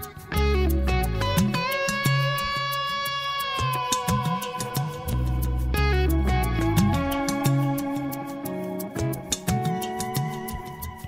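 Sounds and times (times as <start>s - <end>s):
distorted electric guitar notes: 0.0s - 10.6s.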